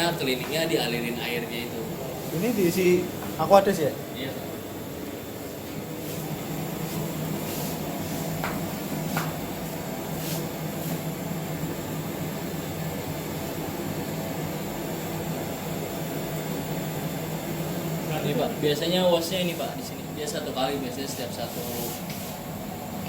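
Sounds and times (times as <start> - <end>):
lab equipment humming: 0.0 - 23.0.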